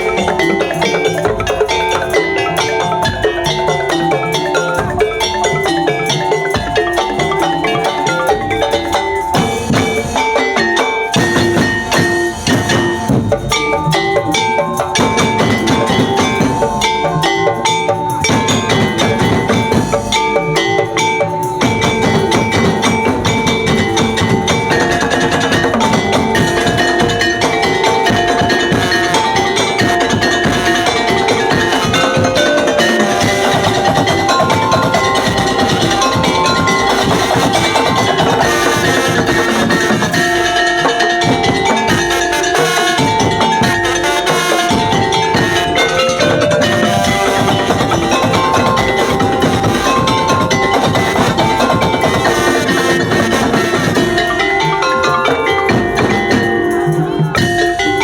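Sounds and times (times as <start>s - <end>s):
mallet percussion music: 0.0s - 58.0s.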